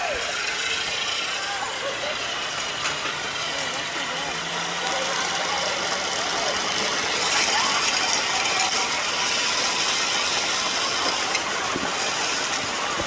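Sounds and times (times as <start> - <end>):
zip line pulleys on cable: 0.0 - 13.0.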